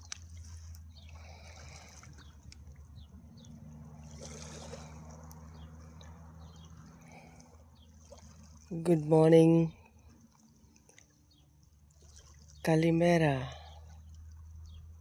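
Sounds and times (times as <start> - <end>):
soft water-like noise: 0.0 - 15.0
small birds chirping: 0.6 - 15.0.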